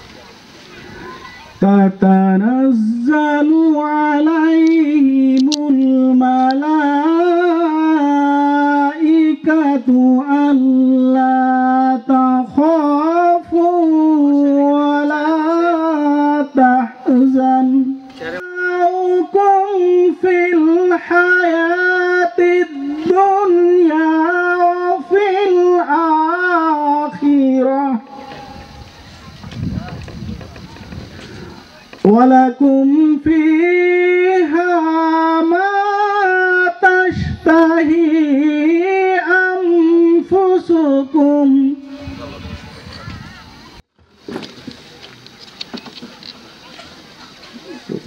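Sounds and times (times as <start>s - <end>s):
person chanting melodically: 0.9s - 43.7s.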